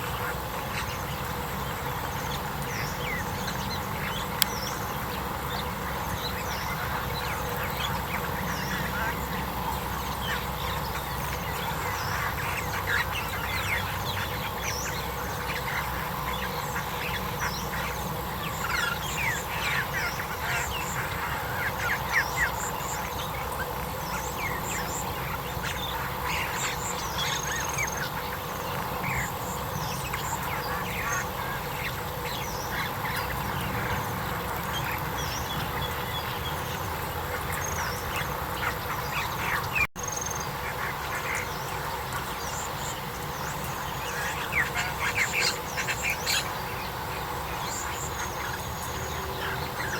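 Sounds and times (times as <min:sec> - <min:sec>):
chorus of quack-like animal calls: 0:00.0 - 0:42.8, 0:43.5 - 0:49.9.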